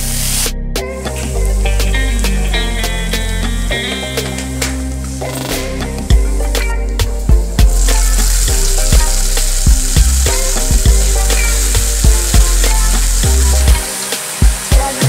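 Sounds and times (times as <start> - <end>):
background music with a beat: 0.0 - 15.0
food sizzling in hot oil: 1.1 - 15.0.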